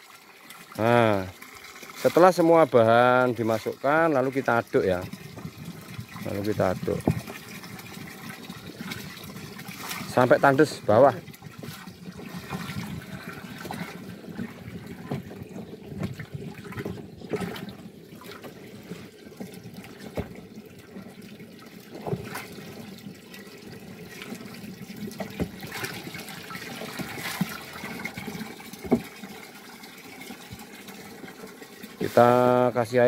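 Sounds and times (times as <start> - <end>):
water splashing into drum from hose: 0.0 - 33.0.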